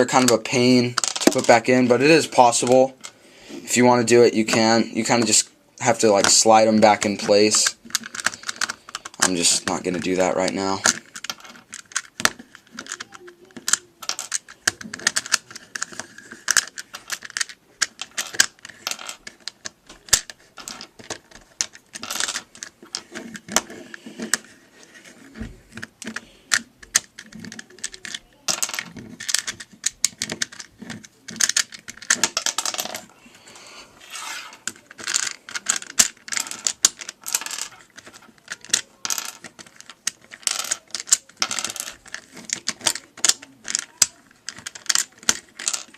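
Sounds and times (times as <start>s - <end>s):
plastic puzzle pieces clicking: 0.9s - 1.6s, 5.1s - 33.1s, 34.0s - 45.9s.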